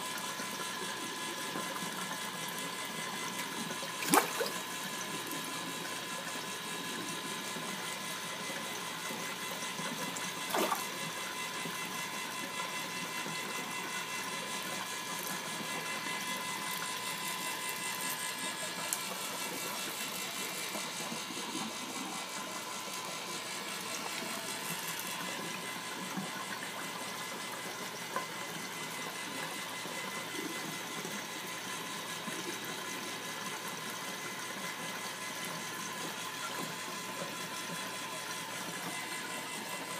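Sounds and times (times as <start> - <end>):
small electric motor humming: 0.0 - 39.9.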